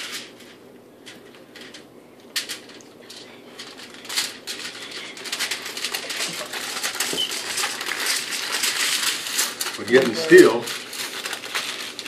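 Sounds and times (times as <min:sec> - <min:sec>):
burrito wrap crinkling: 0:00.0 - 0:12.0.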